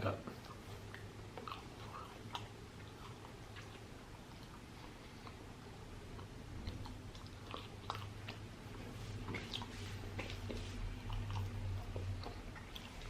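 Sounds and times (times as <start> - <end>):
person chewing food: 0.3 - 13.0.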